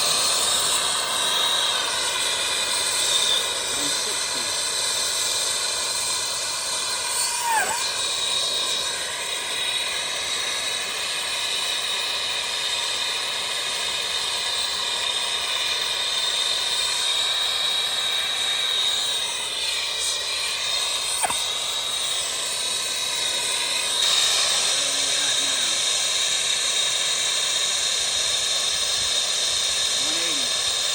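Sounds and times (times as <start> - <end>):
water heater hissing with whistle: 0.0 - 30.9.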